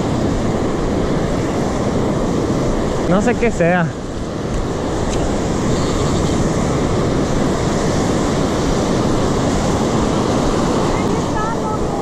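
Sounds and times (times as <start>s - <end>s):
breaking waves: 0.0s - 12.0s
wind: 0.0s - 12.0s.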